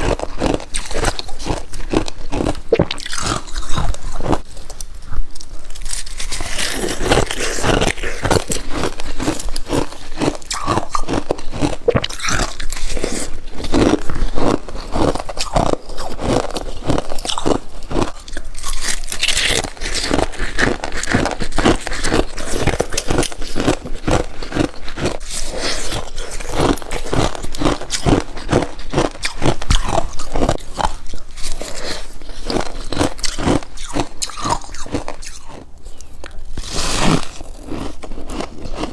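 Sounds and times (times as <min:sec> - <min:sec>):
person chewing freezer frost: 0:00.0 - 0:38.9.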